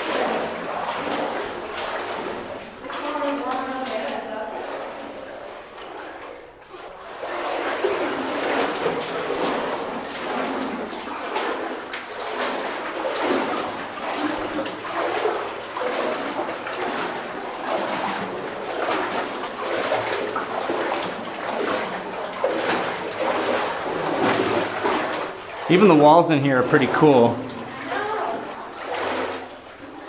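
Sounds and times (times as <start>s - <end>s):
boots sloshing through water: 0.0s - 30.0s.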